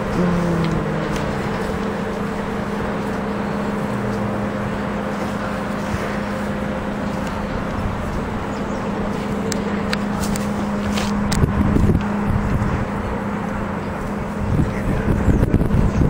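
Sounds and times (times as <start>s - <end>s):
low steady hum: 0.0s - 16.0s
wind buffeting microphone: 0.0s - 16.0s.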